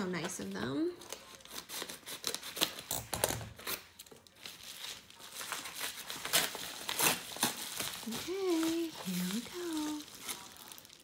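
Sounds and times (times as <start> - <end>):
paper envelope crinkling: 1.0 - 11.0.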